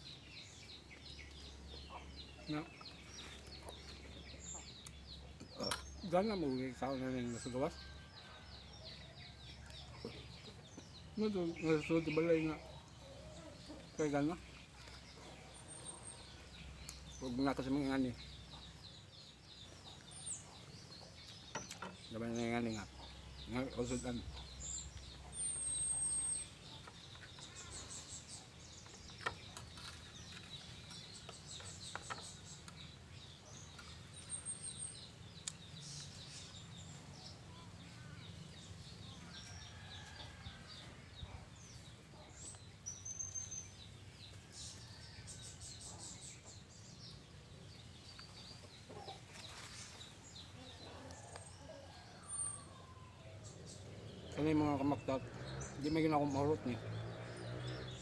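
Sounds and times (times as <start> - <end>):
birds chirping and whistling: 0.0 - 58.0.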